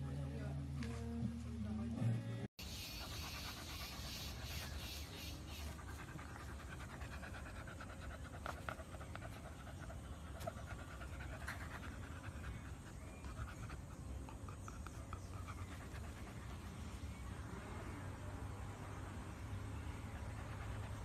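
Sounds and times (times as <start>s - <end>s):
puppy panting: 2.6s - 17.6s, 18.7s - 21.0s.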